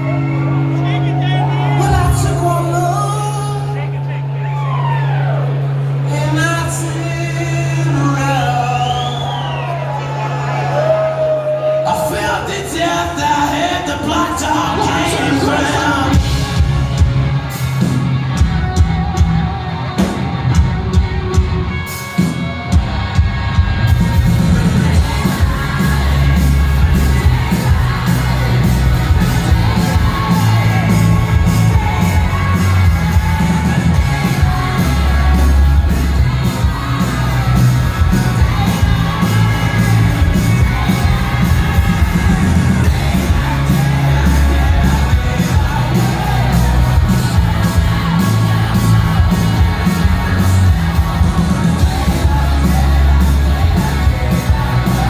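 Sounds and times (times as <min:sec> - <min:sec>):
crowd yelling and whooping: 0:00.0 - 0:55.0
live rock band playing: 0:00.0 - 0:55.0.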